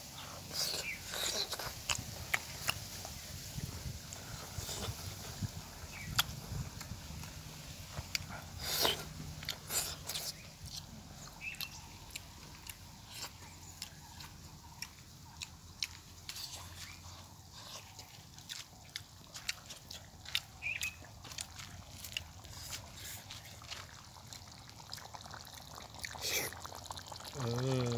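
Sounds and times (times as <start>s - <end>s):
chewing and lip smacks: 0.2s - 27.6s.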